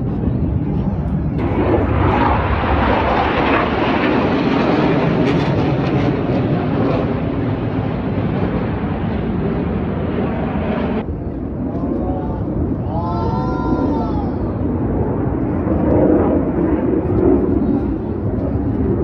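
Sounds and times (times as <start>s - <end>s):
jet roar overhead: 0.0s - 19.0s.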